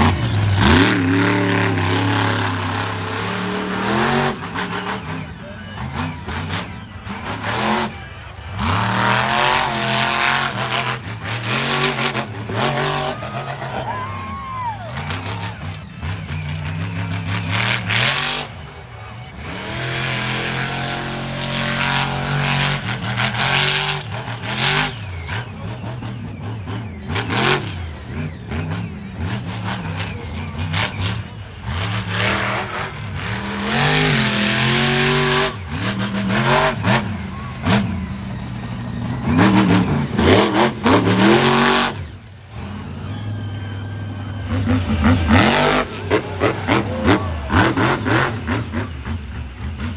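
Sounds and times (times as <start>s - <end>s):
monster truck engine revving: 0.0s - 49.9s.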